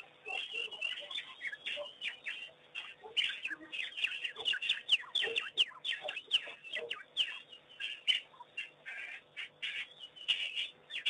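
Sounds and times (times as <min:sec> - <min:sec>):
wild dogs chirping calls: 0:00.0 - 0:11.0.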